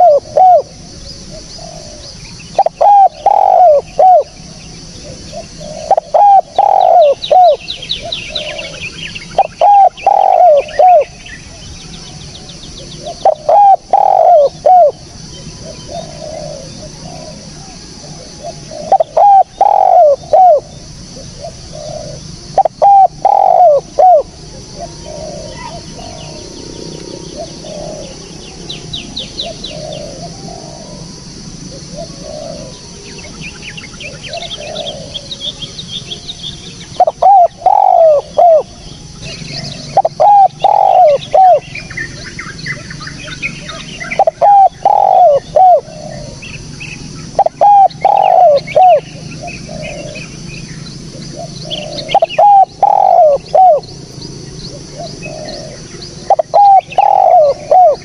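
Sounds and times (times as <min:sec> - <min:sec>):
small birds chirping: 0:00.0 - 0:17.7, 0:18.3 - 0:58.0
doves cooing: 0:00.0 - 0:58.0.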